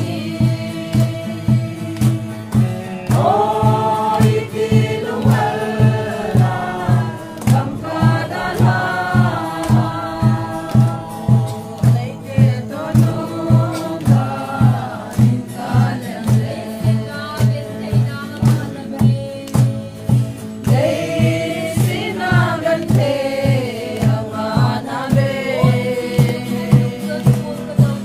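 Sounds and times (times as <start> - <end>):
acoustic guitar: 0.0 - 28.0
drum beating steadily: 0.0 - 28.0
group singing a mourning song: 0.0 - 28.0.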